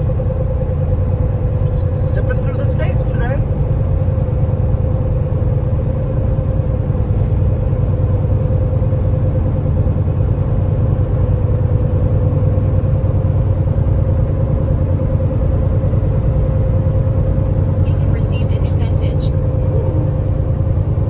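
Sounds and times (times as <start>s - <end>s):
diesel engine rumble: 0.0s - 21.0s
mid-pitched whine: 0.0s - 21.0s
road noise: 0.0s - 21.0s.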